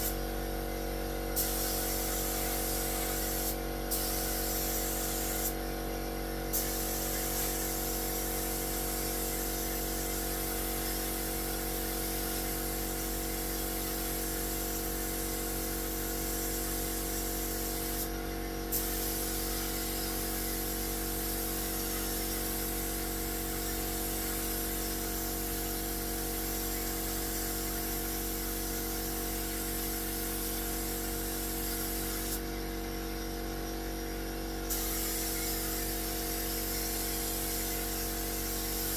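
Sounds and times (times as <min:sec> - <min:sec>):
paint spray gun hissing: 0:00.0 - 0:00.3, 0:01.3 - 0:32.6, 0:34.6 - 0:38.9
air compressor humming: 0:00.0 - 0:38.9.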